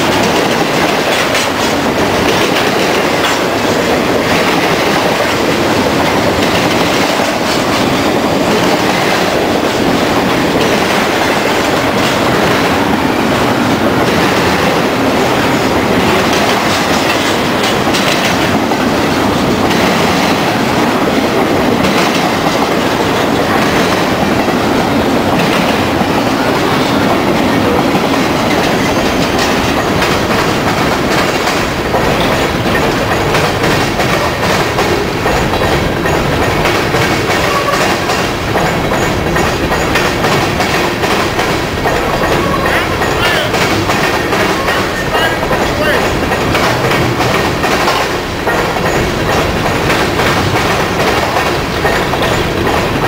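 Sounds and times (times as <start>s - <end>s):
freight train wheels clattering: 0.0s - 53.0s.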